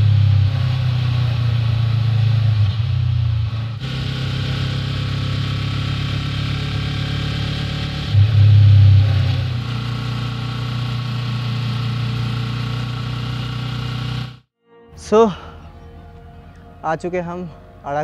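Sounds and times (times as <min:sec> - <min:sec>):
motorcycle engine running: 0:00.0 - 0:14.5.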